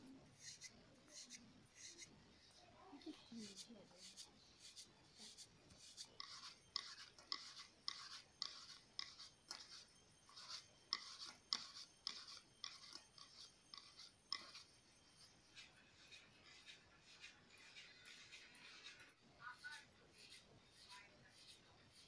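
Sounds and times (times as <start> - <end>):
fingers rubbing dough: 3.4 - 22.0.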